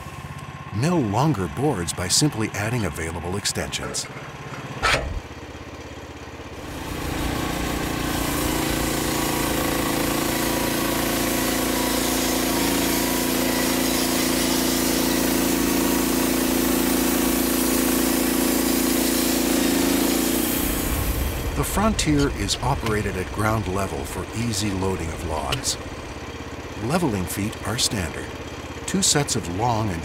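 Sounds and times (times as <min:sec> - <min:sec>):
sawmill engine running under load: 0:00.0 - 0:30.0
band saw blade cutting log: 0:01.2 - 0:05.3, 0:06.6 - 0:30.0.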